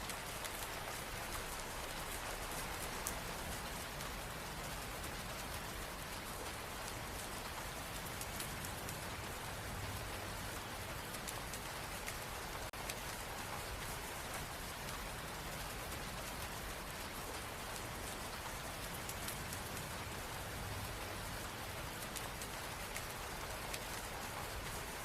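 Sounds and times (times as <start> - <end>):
rain drop ticks: 0.0 - 25.0
steady rain hiss: 0.0 - 25.0.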